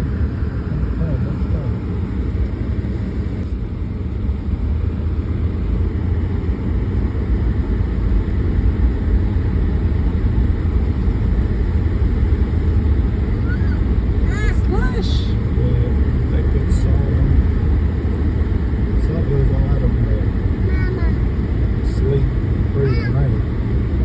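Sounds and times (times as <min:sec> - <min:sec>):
vehicle driving on icy road: 0:00.0 - 0:24.0.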